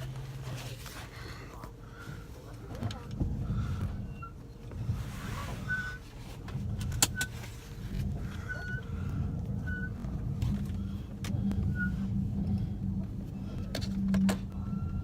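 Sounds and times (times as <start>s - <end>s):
car wash rumbling: 0.0s - 15.0s.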